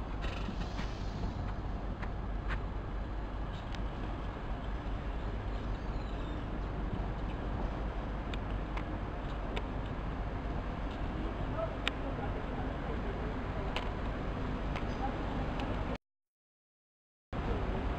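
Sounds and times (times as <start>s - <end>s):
trains rumbling: 0.0s - 16.0s.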